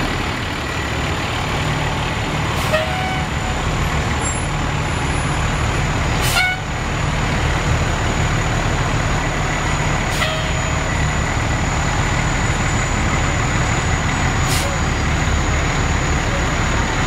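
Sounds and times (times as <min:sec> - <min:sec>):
truck diesel engines rumbling: 0:00.0 - 0:17.0.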